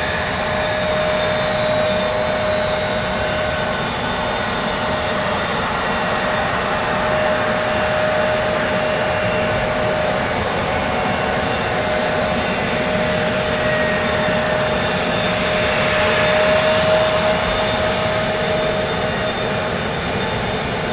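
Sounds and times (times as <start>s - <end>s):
jet engines idling: 0.0s - 20.9s.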